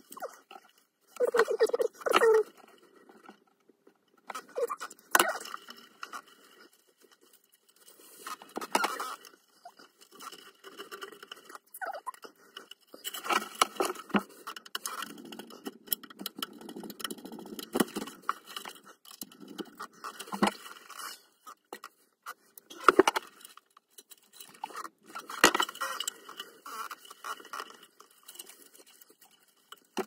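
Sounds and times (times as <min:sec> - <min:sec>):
wires rustling and scraping: 0:00.0 - 0:30.0.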